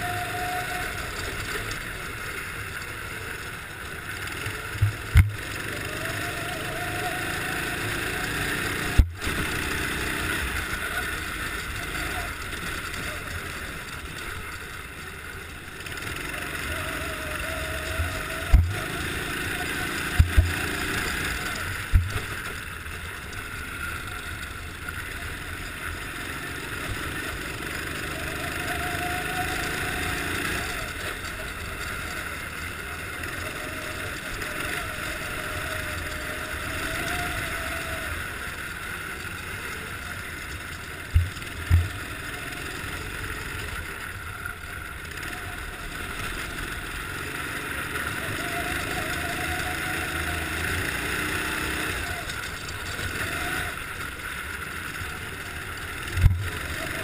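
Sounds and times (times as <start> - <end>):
kart engine racing: 0.0 - 57.0.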